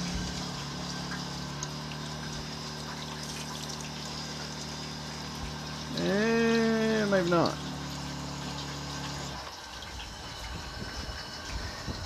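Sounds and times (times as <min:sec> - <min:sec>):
electric water pump humming: 0:00.0 - 0:12.0
water running from faucet: 0:00.0 - 0:12.0.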